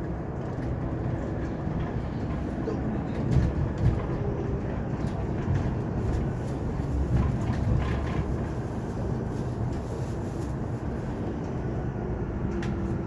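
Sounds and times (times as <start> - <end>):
tyre and road rumble: 0.0 - 13.0.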